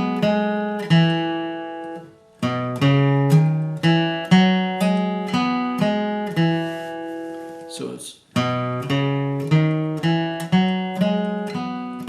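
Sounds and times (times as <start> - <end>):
acoustic guitar flatpicking: 0.0 - 12.0.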